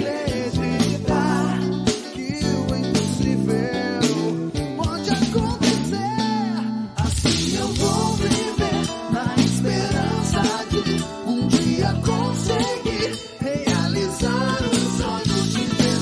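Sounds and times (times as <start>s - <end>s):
guitar: 0.0s - 16.0s
person singing: 0.0s - 16.0s
steady bass notes: 0.0s - 16.0s.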